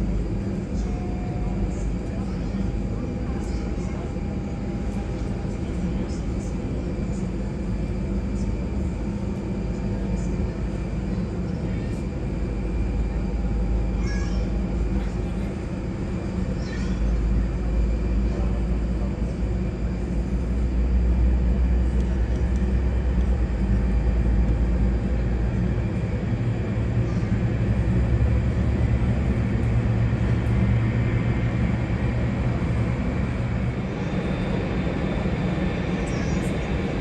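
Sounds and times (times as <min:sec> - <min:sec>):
jet engine rumble: 0:00.0 - 0:37.0.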